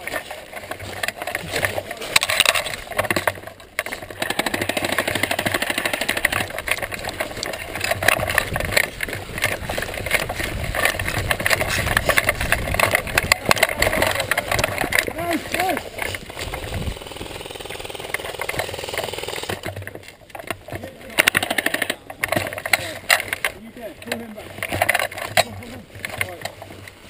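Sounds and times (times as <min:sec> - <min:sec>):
footsteps: 0:00.0 - 0:27.0
gun rattling and knocking: 0:00.0 - 0:27.0.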